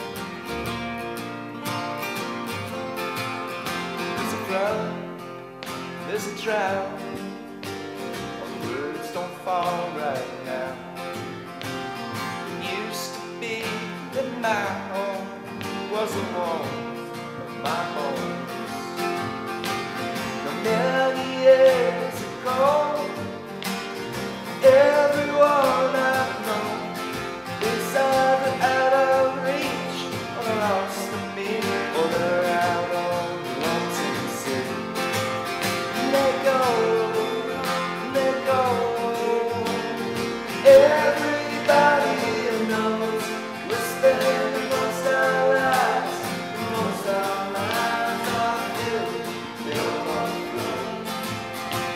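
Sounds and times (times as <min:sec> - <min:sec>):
acoustic guitars: 0:00.0 - 0:51.9
man singing: 0:04.0 - 0:05.2, 0:06.0 - 0:07.4, 0:08.4 - 0:11.0, 0:12.5 - 0:19.2, 0:20.2 - 0:23.4, 0:24.5 - 0:51.9.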